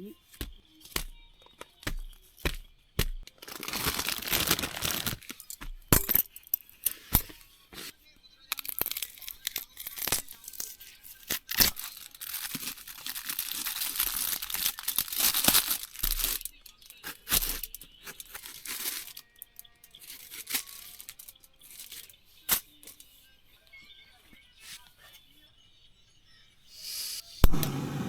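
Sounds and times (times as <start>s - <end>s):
rustling and crinkling: 0.1s - 25.3s.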